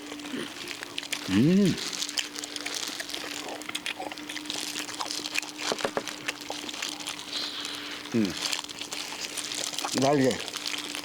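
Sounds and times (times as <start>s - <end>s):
faint steady hum: 0.0s - 11.0s
roasted duck skin crackling: 0.0s - 11.0s.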